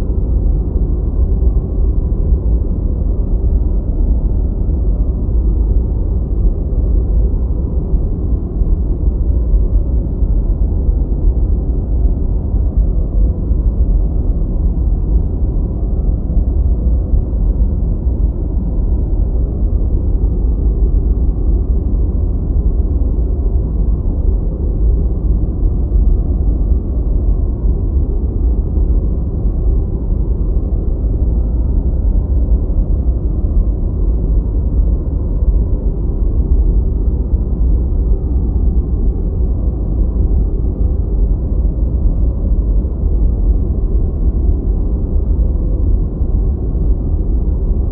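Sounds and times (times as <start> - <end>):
deep low white noise: 0.0 - 47.9.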